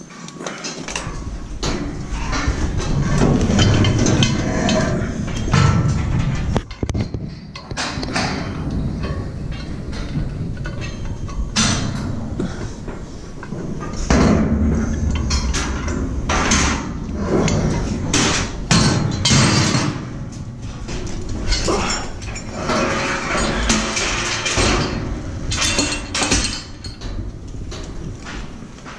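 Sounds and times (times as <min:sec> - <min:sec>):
metal scaffolding parts clanking: 0:00.0 - 0:28.9.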